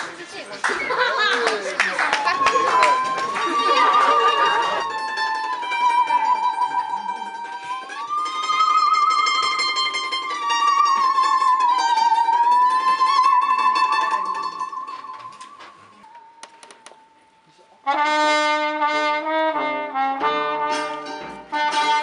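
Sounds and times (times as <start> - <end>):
musical saw melody: 2.4 - 22.0.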